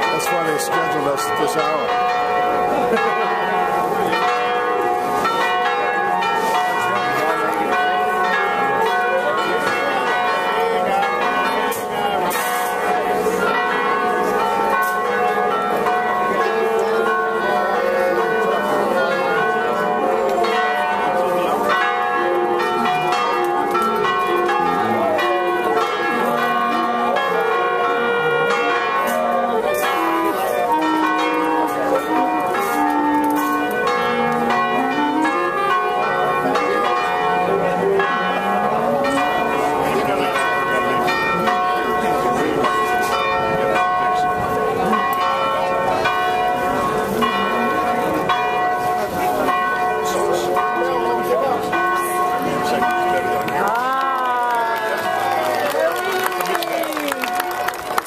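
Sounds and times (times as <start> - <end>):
church bells pealing: 0.0 - 58.0
faint voices chattering: 0.0 - 58.0.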